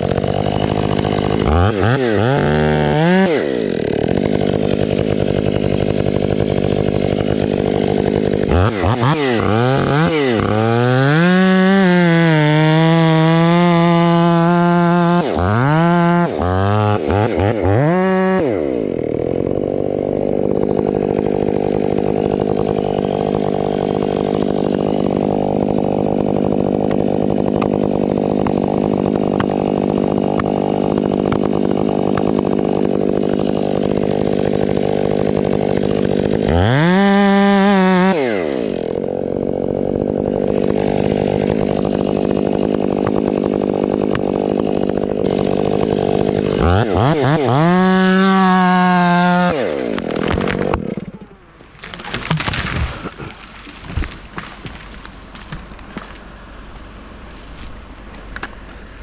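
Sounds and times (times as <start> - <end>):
chainsaw revving and idling: 0.0 - 59.0.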